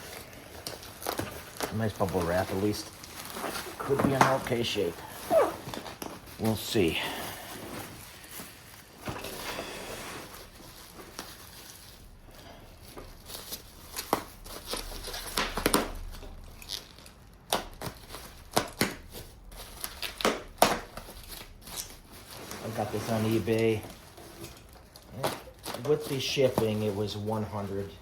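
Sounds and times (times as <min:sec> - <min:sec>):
bubble wrap crinkling: 0:00.0 - 0:28.0.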